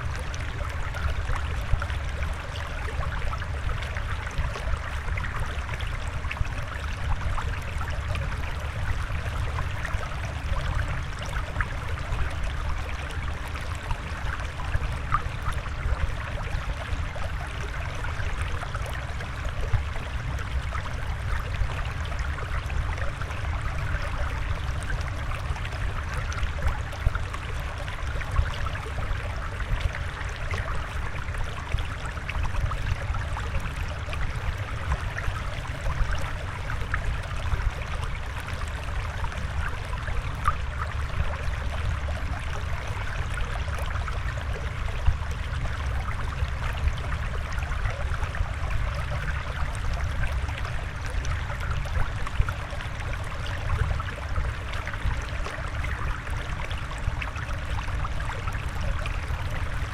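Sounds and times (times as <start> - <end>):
trickling water: 0.0 - 59.9.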